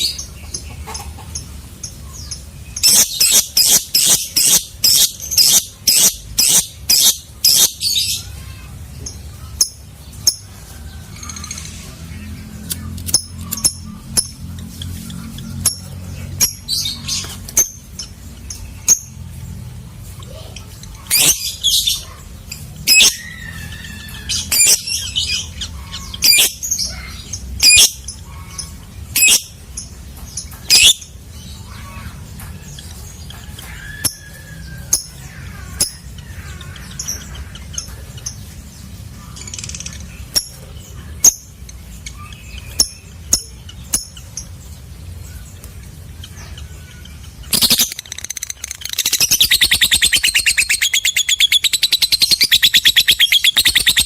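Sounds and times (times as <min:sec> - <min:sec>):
bird squawking and chirping: 0:00.0 - 0:54.0.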